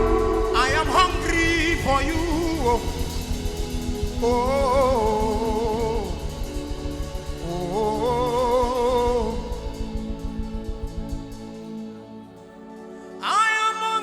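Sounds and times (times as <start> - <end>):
steady beat: 0.0 - 11.8
singer holding wordless notes: 0.0 - 14.0
sustained musical backing: 0.0 - 14.0.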